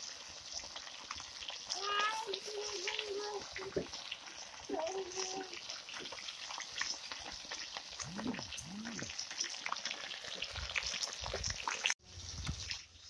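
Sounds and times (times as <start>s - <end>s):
fish deep-frying in hot oil: 0.0s - 13.0s.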